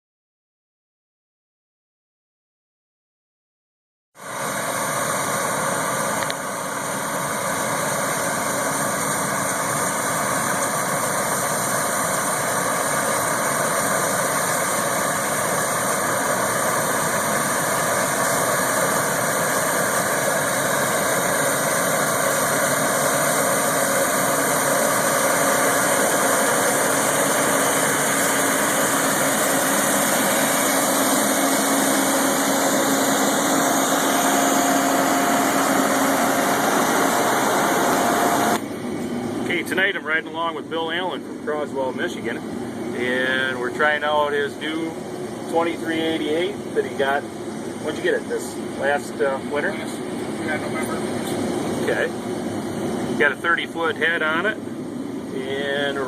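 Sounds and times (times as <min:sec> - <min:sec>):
combine harvester running: 0:04.2 - 0:56.0.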